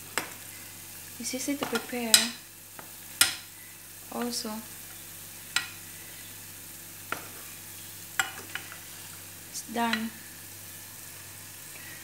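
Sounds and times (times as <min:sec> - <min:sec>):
dough sizzling in hot oil: 0:00.0 - 0:12.0.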